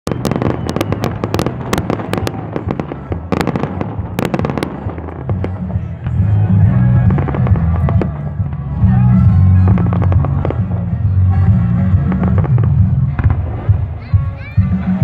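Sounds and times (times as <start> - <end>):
fireworks cracking and popping: 0.1 - 14.4
music with heavy bass: 0.1 - 15.0.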